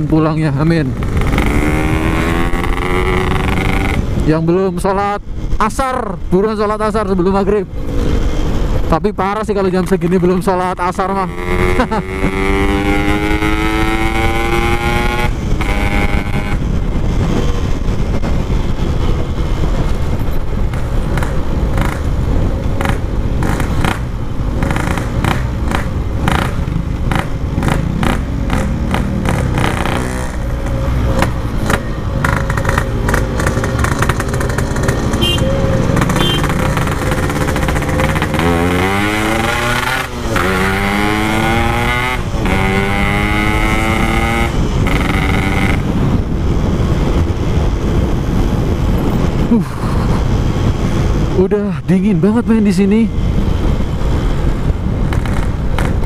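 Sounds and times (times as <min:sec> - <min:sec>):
motorcycle engine accelerating: 0:00.0 - 0:04.3, 0:10.0 - 0:51.4, 0:53.1 - 0:56.0.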